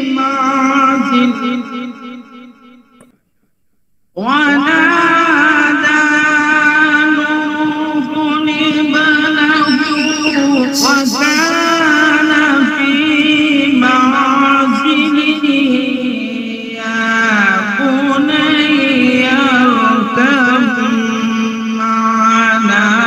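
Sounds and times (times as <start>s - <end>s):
man reciting melodically: 0.0s - 2.4s, 4.1s - 23.0s.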